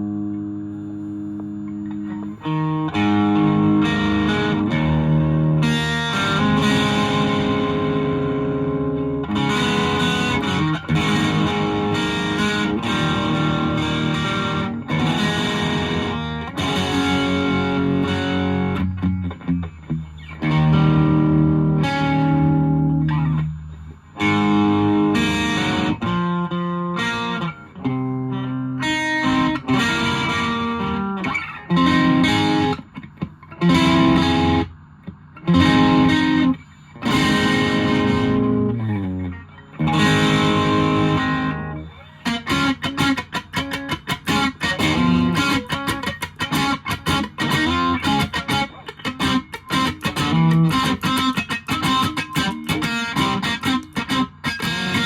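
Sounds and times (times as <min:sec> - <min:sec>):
distorted electric guitar chords: 0:00.0 - 0:55.0.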